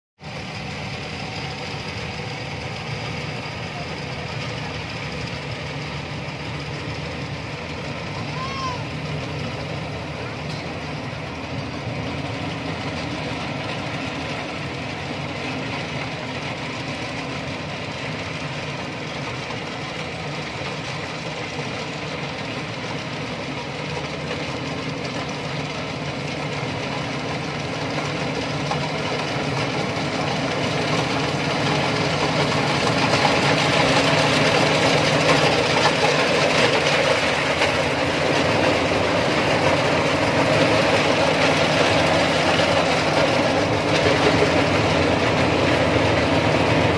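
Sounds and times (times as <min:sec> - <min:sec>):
combine harvester diesel engine: 0:00.2 - 0:46.9.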